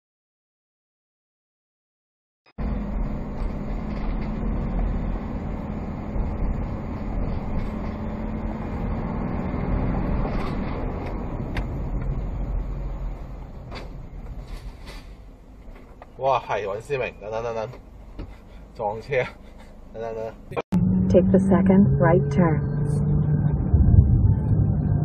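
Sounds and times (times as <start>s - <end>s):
vehicle engine and road noise: 2.6s - 25.0s.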